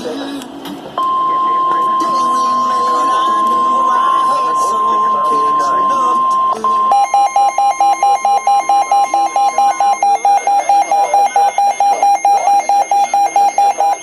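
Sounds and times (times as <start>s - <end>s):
fast-pulsing electronic alarm beep: 1.0s - 14.0s
steady high warning tone: 1.0s - 14.0s.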